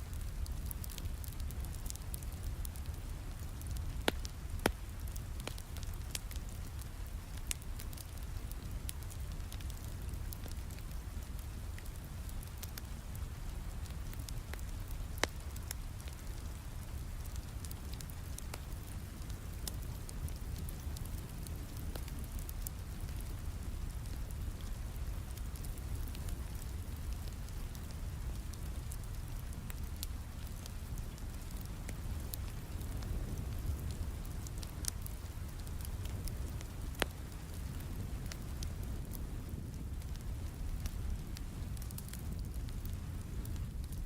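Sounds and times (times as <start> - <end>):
steady rain: 0.0 - 44.0
wood fire crackling: 0.0 - 44.0.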